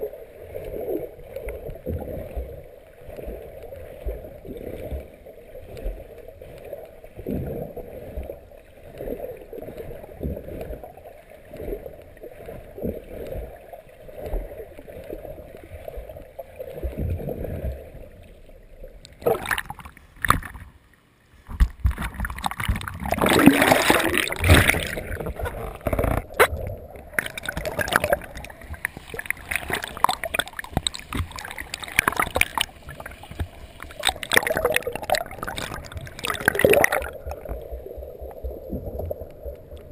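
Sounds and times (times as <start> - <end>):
crackling water splashing: 0.0 - 39.9
muffled underwater water noise: 0.0 - 39.9.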